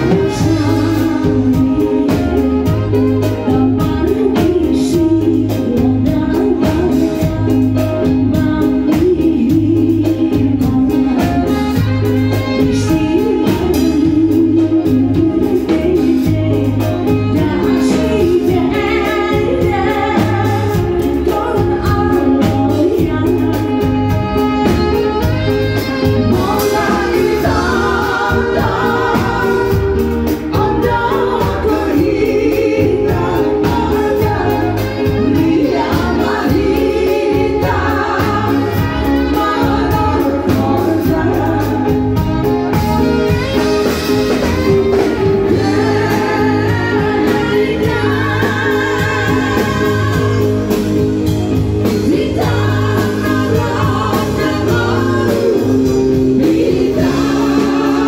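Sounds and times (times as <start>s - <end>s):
saxophone: 0.0s - 58.0s
woman singing into a microphone: 0.0s - 58.0s.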